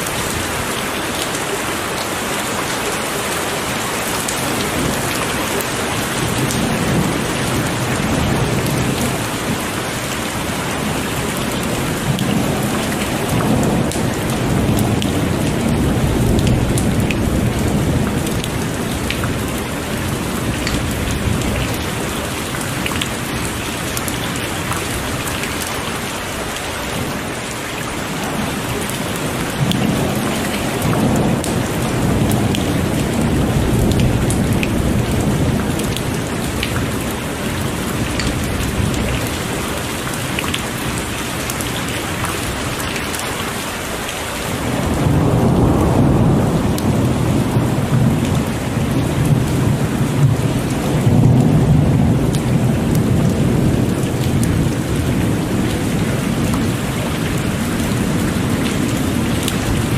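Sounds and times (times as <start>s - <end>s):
heavy rain pouring: 0.0s - 59.9s
low rolling thunder: 4.2s - 27.4s, 28.0s - 40.2s, 44.5s - 59.9s.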